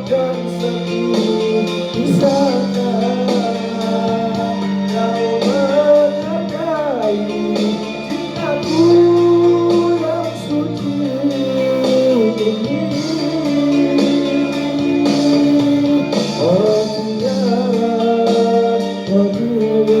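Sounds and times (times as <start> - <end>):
guitar backing: 0.0 - 20.0
person singing long notes: 0.0 - 20.0.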